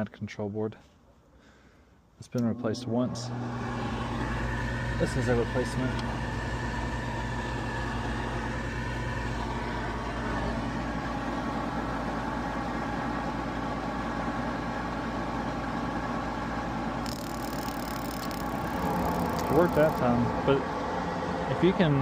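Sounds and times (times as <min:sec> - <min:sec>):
draft inducer motor hum: 0:02.2 - 0:22.0.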